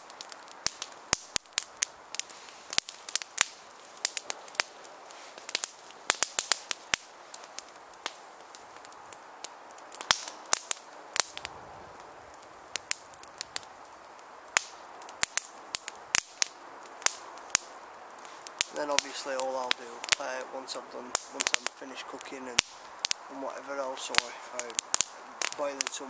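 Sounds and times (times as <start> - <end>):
faint hiss: 0.0 - 26.0
wood fire crackling and popping: 0.0 - 26.0.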